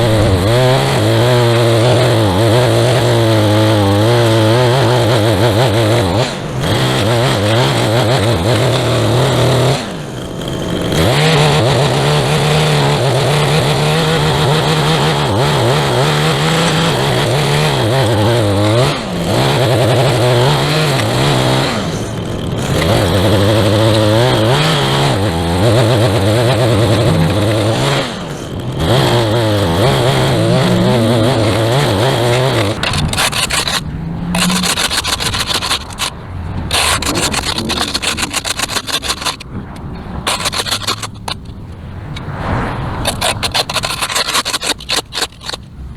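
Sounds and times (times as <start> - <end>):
two-stroke yard tool engine: 0.0 - 45.9.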